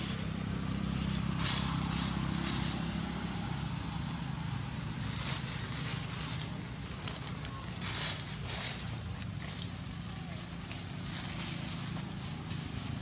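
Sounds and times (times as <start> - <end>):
dry leaves crunching: 0.0 - 13.0
motor engine humming: 0.0 - 13.0.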